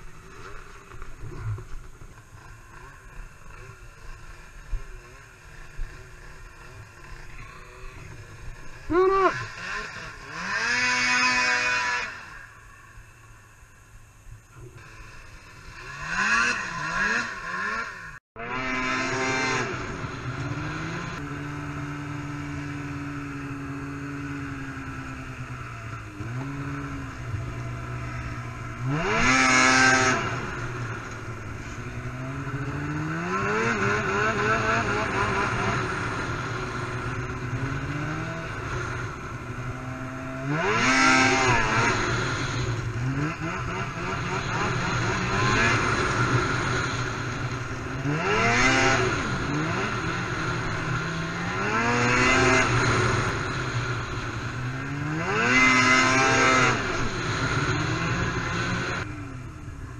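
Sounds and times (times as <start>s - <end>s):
snowmobile engine revving: 0.0s - 12.9s, 14.6s - 59.1s.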